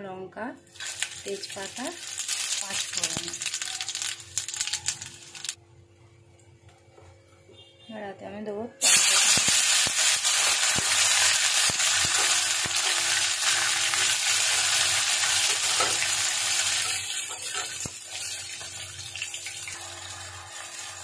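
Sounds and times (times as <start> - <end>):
tomatoes sizzling in hot oil: 0.7 - 5.6, 8.8 - 21.0.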